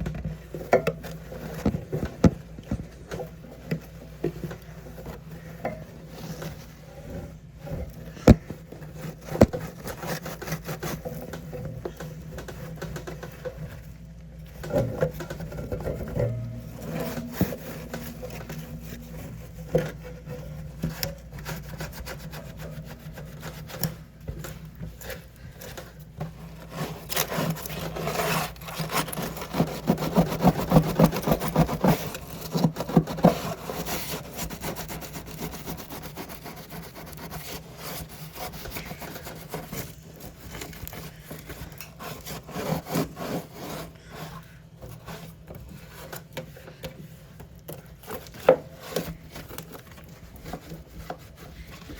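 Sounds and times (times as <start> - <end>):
scrubbing and scraping: 0.0 - 51.9.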